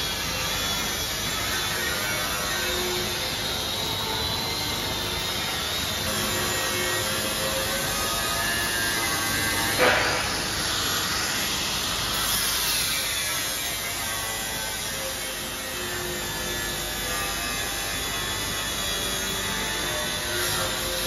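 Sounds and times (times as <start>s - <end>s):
angle grinder grinding metal: 0.0s - 21.0s.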